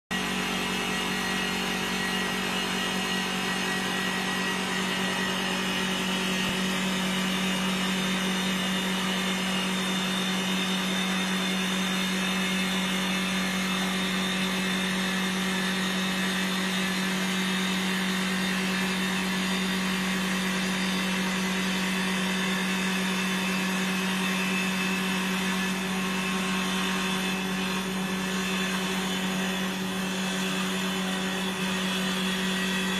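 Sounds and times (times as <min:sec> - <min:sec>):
cutters shaving wood: 0:00.1 - 0:32.9
lathe machine humming: 0:00.2 - 0:32.9.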